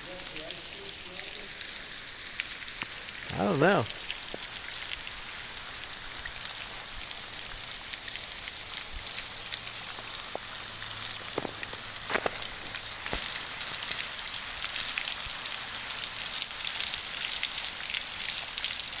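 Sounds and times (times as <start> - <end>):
water drops ticking and splashing: 0.0 - 19.0
waterfall spattering onto rock: 0.0 - 19.0.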